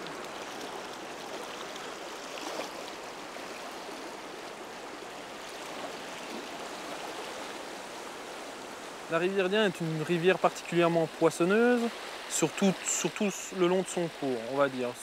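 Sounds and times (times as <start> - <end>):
fast river current rushing: 0.0 - 15.0.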